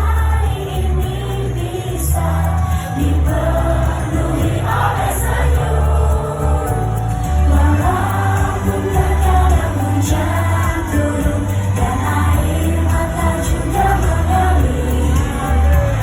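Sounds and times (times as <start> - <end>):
heavy pulsing bass: 0.0 - 16.0
women singing in unison: 0.0 - 16.0.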